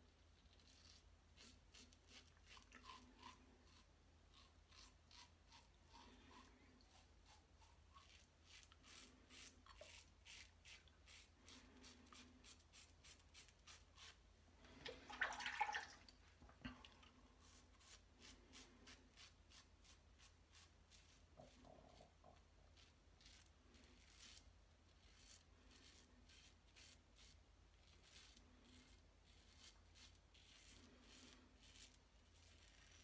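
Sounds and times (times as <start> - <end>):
razor scraping stubble: 0.4 - 14.2, 17.4 - 33.0.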